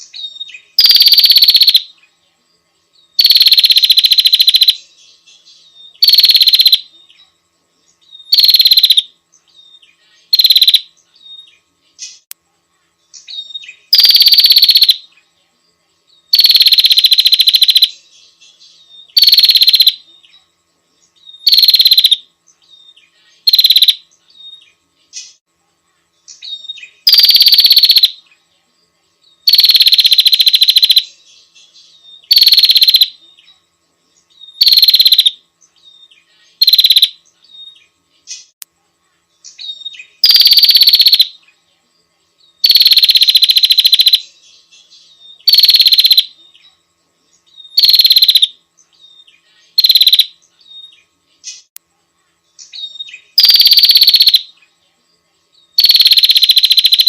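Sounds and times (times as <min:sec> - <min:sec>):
bird buzzy rattling trills: 0:00.0 - 0:01.9, 0:03.1 - 0:07.2, 0:07.9 - 0:12.3, 0:13.1 - 0:15.2, 0:16.3 - 0:25.5, 0:26.2 - 0:28.4, 0:29.4 - 0:38.6, 0:39.3 - 0:41.5, 0:42.6 - 0:51.8, 0:52.6 - 0:54.6, 0:55.7 - 0:57.0.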